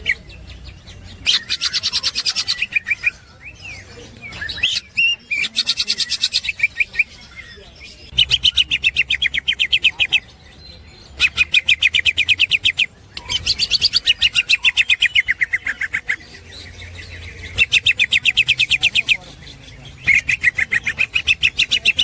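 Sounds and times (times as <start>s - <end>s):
bird singing rapid trills: 0.0s - 22.0s.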